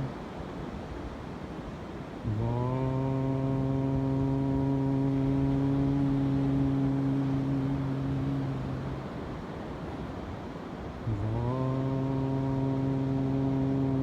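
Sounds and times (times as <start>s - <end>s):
person chanting a mantra: 0.0s - 0.3s, 2.0s - 14.0s
surf: 0.0s - 14.0s
wind: 0.0s - 14.0s.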